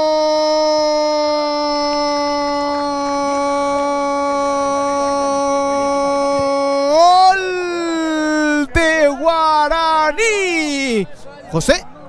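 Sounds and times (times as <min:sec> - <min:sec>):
commentator shouting: 0:00.0 - 0:11.8.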